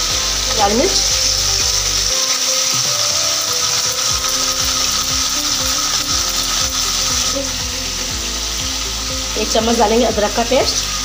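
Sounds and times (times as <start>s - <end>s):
soft background music: 0.0s - 11.0s
steady hiss: 0.0s - 11.0s.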